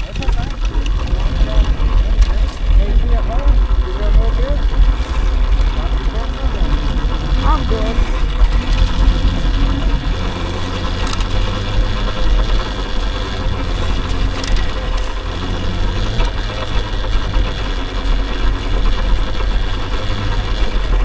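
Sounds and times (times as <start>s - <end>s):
electric dirt bike rumbling: 0.0s - 21.0s.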